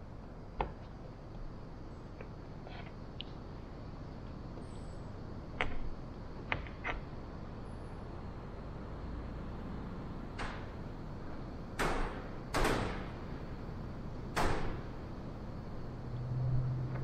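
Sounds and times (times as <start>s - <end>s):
low workshop hum: 0.0s - 17.0s.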